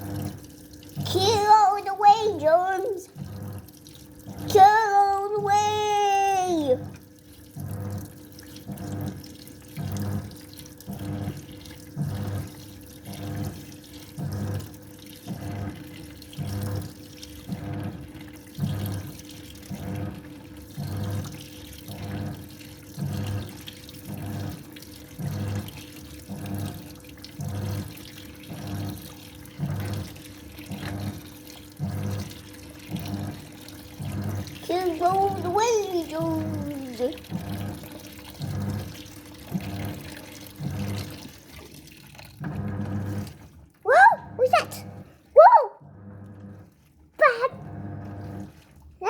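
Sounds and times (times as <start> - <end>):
washing machine motor hum: 0.0 - 49.0
water sloshing in washing machine: 0.0 - 49.0.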